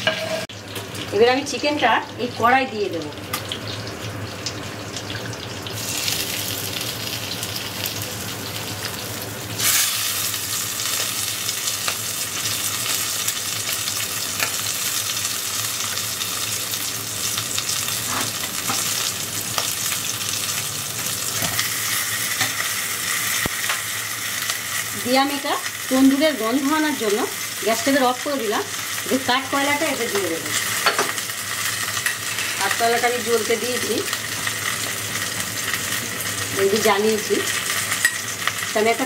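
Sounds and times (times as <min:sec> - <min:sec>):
chicken sizzling in hot oil: 0:00.0 - 0:39.0.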